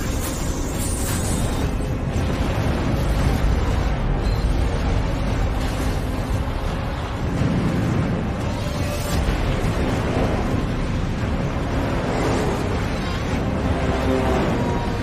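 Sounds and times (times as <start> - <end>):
storm wind rushing: 0.0 - 15.0
deep rumble: 1.4 - 15.0.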